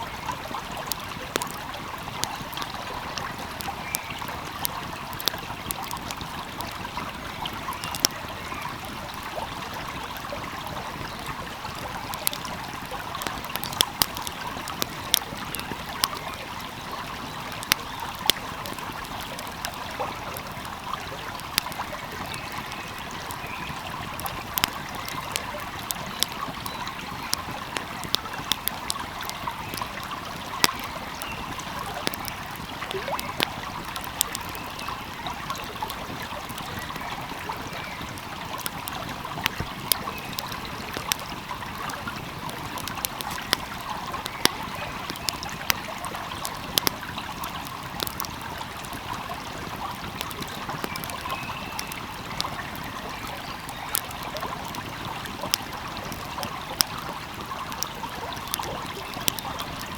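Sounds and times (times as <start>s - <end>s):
stream flowing: 0.0s - 59.9s
wood fire crackling and popping: 0.0s - 59.9s.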